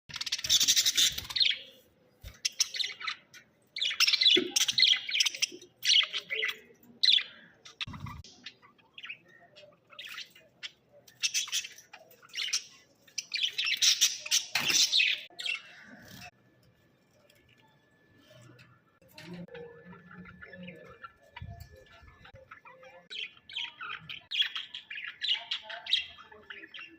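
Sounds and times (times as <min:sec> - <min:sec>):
budgerigars chirping and chattering: 0:00.1 - 0:16.3, 0:19.2 - 0:26.9.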